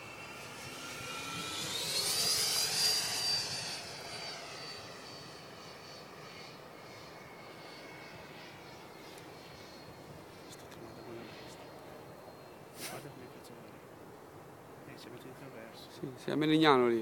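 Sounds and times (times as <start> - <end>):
model jet fan whining past: 0.0 - 17.0.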